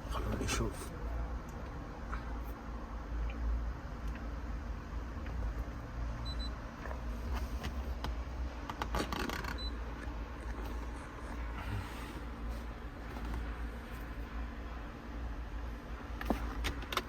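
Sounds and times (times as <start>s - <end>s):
steady low rumble: 0.0s - 8.6s, 9.6s - 16.6s.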